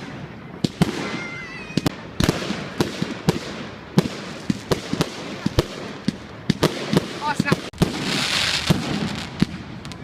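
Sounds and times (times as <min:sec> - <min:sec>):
fireworks bangs and cracks: 0:00.0 - 0:10.0
fireworks crackling: 0:00.0 - 0:10.0.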